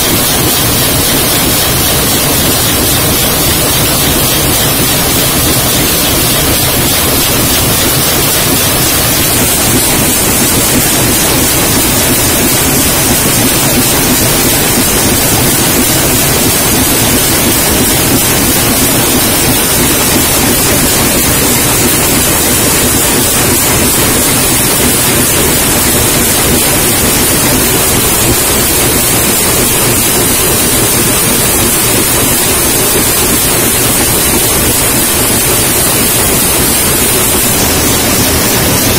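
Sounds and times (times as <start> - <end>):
can-making machine running: 0.0 - 38.9.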